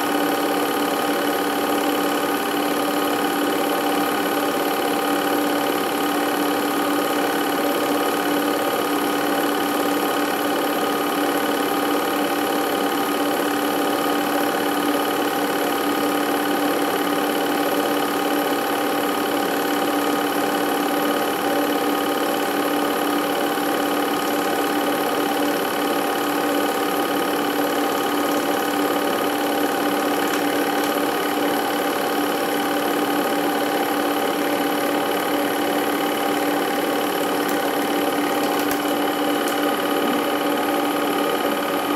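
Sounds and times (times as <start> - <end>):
film projector whirring: 0.0 - 41.9.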